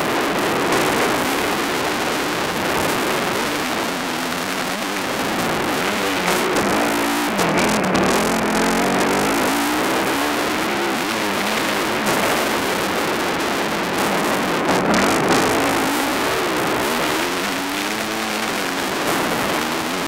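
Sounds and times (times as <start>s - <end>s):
steady rushing noise: 0.0s - 20.0s
off-road vehicle engine revving: 2.0s - 20.0s.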